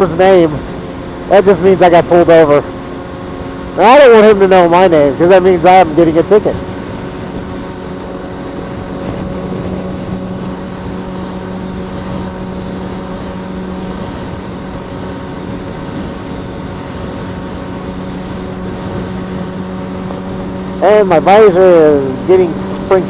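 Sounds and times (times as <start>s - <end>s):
motorcycle engine cruising: 0.0s - 23.0s
wind noise: 0.0s - 23.0s.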